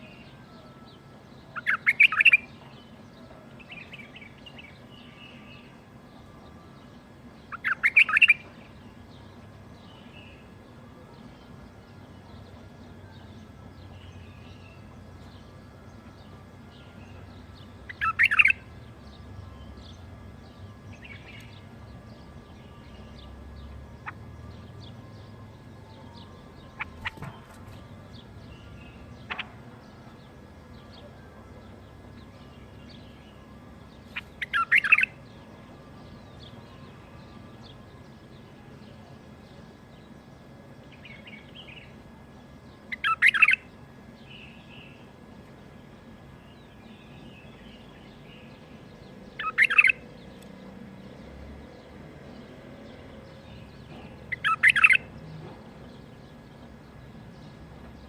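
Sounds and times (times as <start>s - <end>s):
bulbul singing: 0.0s - 58.0s
faint bird chirps: 0.0s - 58.0s
low steady background hum: 0.0s - 58.0s.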